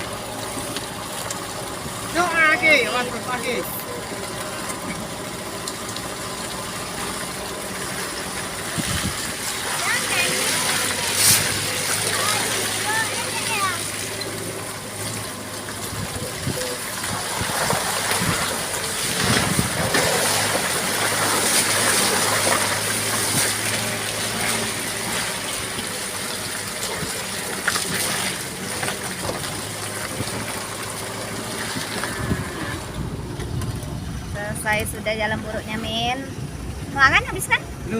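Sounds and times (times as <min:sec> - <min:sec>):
tyres hissing on wet road: 0:00.0 - 0:33.3
low engine hum: 0:00.0 - 0:37.9.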